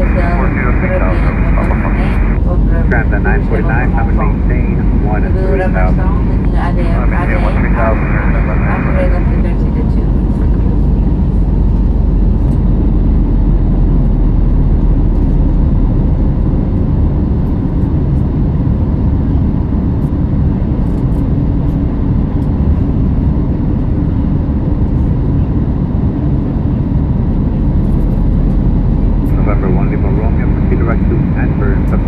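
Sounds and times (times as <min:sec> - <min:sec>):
faint steady hum: 0:00.0 - 0:32.0
jet engine and airflow rumble: 0:00.0 - 0:32.0.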